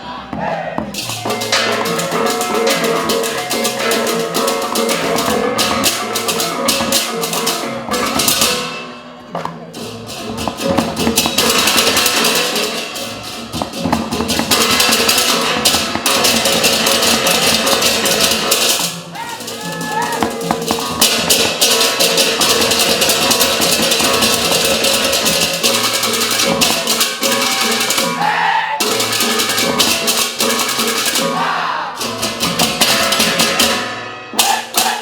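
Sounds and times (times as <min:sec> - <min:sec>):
fast dense percussion: 0:00.3 - 0:08.8, 0:09.6 - 0:35.0
sustained pitched instruments: 0:01.0 - 0:35.0.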